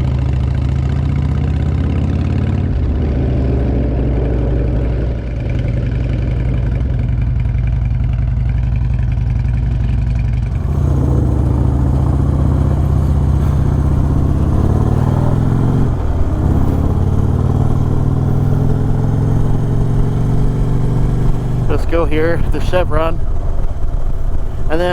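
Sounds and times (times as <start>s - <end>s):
motorcycle engines running: 0.0s - 24.9s.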